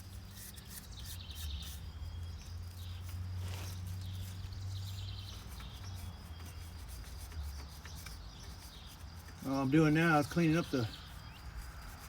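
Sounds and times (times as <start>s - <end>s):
insects chirping in trills: 0.0s - 12.0s.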